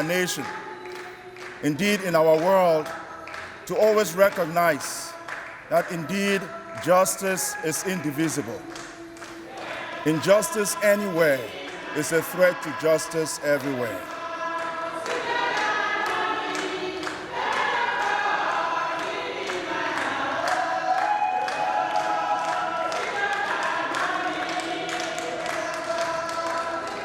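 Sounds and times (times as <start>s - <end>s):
choir singing sustained notes: 0.0s - 27.0s.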